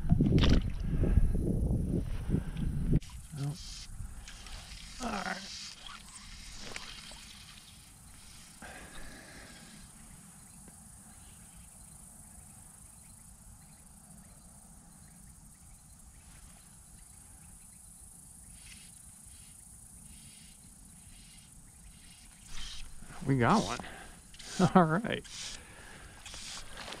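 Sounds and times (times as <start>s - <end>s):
insects chirring: 0.2s - 27.0s.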